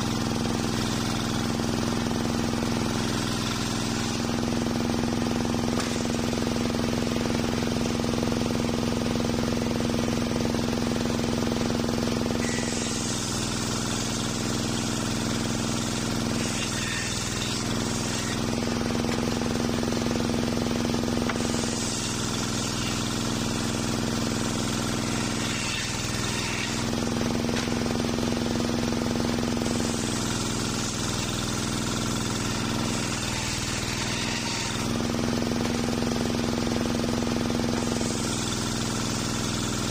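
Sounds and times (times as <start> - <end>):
engine-driven saw bench droning: 0.0 - 39.9
saw blade hissing through wood: 0.6 - 7.3, 12.0 - 28.8, 29.4 - 36.1, 36.8 - 39.9.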